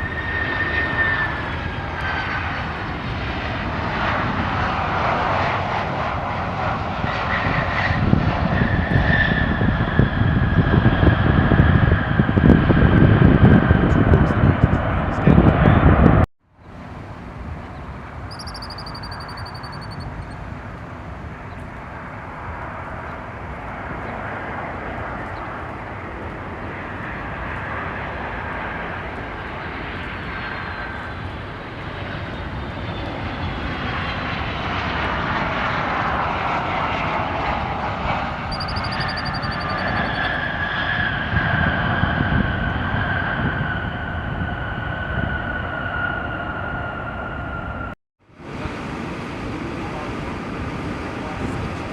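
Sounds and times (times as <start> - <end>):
airliner engines whining: 0.0 - 51.9.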